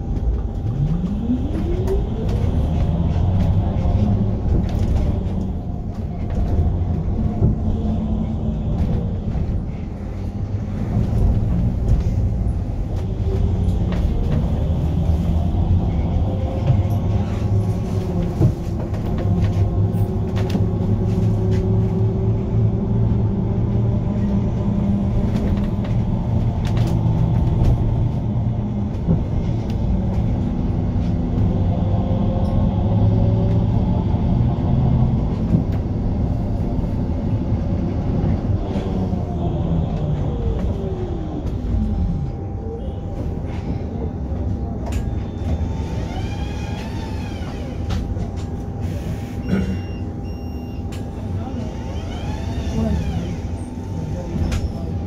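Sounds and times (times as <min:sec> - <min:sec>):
low rumble of the ride: 0:00.0 - 0:55.0.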